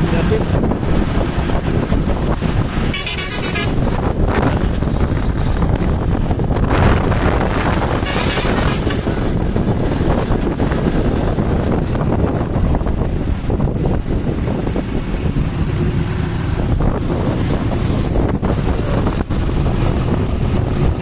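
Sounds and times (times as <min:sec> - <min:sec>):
motorcycle rumbling: 0:00.0 - 0:21.0
wind buffeting microphone: 0:00.0 - 0:21.0.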